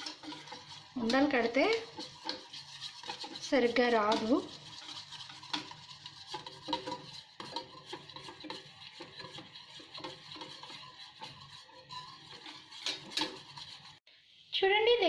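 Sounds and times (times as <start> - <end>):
spoon stirring in a metal pan: 0.0 - 14.1.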